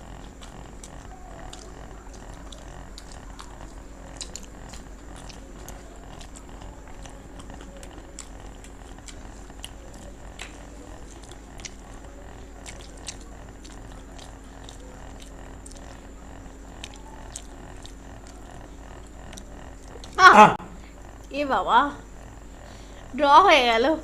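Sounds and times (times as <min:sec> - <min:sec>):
mouth clicks: 0:00.0 - 0:20.2
people chewing crunchy food: 0:00.0 - 0:23.7
steady background hum: 0:00.0 - 0:24.0.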